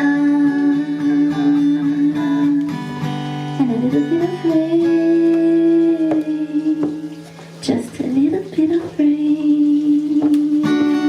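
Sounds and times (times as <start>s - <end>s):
acoustic guitar strumming: 0.0s - 11.0s
person singing ballad: 0.0s - 11.0s.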